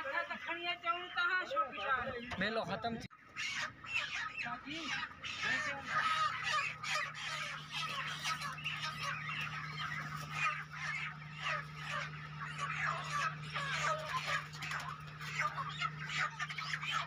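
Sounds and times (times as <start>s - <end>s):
chickens squawking: 0.0s - 17.0s
steady low hum: 0.8s - 17.0s.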